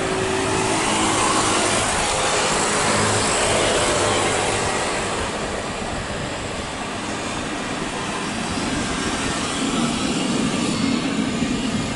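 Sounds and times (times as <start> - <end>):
jet airliner engines rushing: 0.0 - 11.9.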